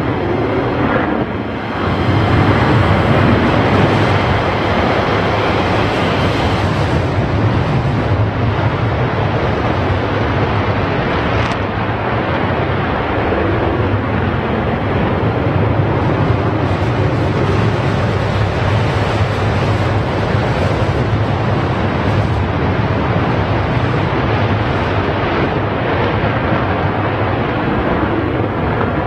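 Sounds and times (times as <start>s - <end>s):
jet engines taking off: 0.0s - 29.0s.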